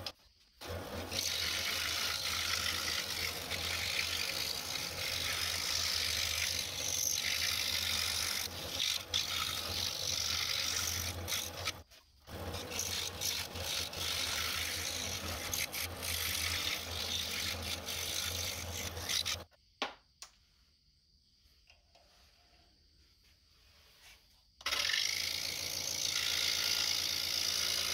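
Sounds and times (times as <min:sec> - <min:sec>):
scroll saw cutting wood: 0:00.0 - 0:19.5, 0:24.6 - 0:27.9.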